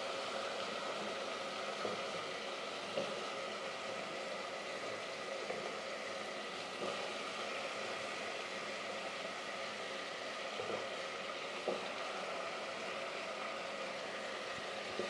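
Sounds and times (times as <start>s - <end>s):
meat frying in a pot: 0.0s - 15.0s.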